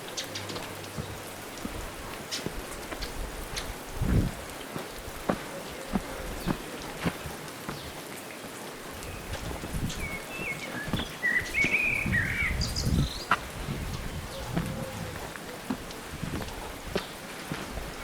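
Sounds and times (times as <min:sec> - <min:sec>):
footsteps crunching on dirt: 0:00.0 - 0:18.0
wind gusts on microphone: 0:01.0 - 0:07.0, 0:08.8 - 0:18.0.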